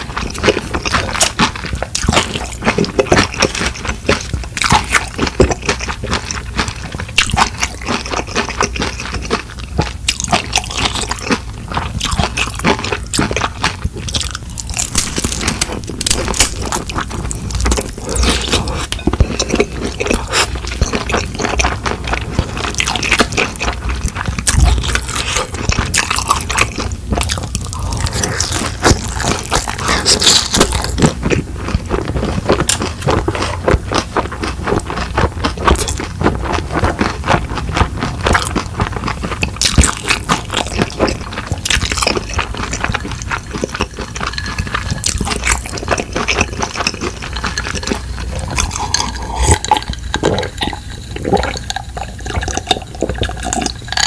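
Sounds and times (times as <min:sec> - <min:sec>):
chewing with crunches: 0:00.0 - 0:54.0.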